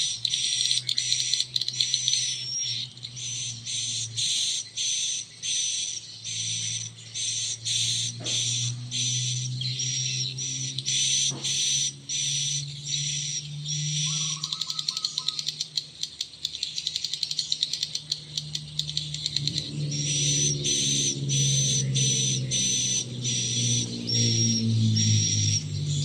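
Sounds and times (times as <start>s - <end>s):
fast clicking twitter: 0.0s - 25.8s
high bird chirps from speakers: 0.0s - 26.0s.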